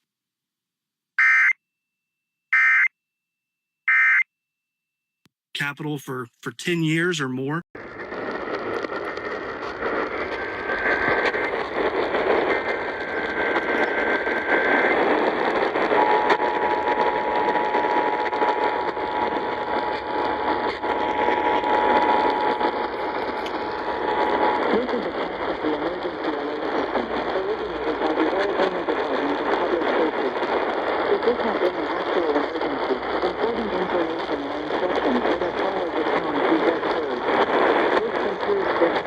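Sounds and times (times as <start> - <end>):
radio static: 5.6 - 39.0.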